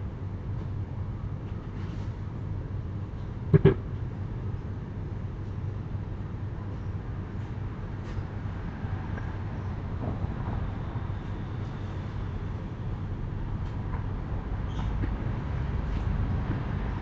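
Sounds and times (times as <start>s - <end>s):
low outdoor rumble: 2.4s - 17.0s.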